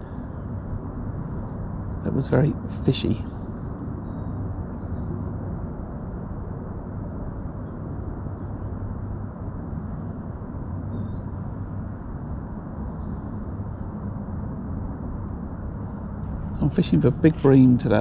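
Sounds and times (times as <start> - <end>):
low rumble of outdoor noise: 0.0 - 18.0.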